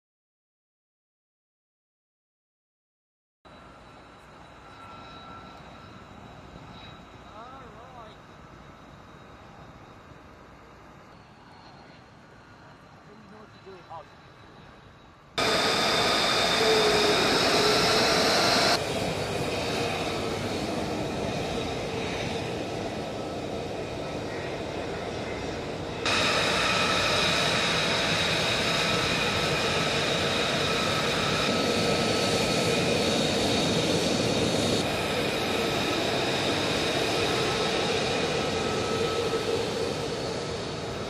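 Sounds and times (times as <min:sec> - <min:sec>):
fighter jet engines running: 0:03.5 - 0:41.0.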